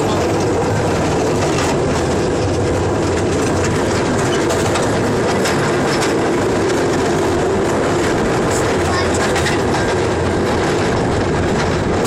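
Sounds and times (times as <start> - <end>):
train rumbling: 0.0 - 12.0
wheels clicking over rail joints: 0.0 - 12.0.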